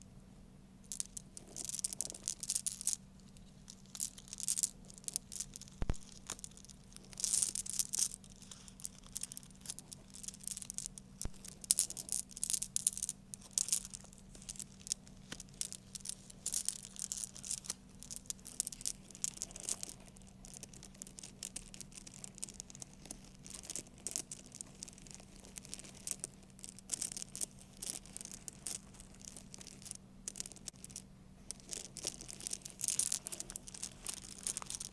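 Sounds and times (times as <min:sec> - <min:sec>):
faint steady hum: 0:00.0 - 0:34.9
sharp high crinkling: 0:01.0 - 0:34.9.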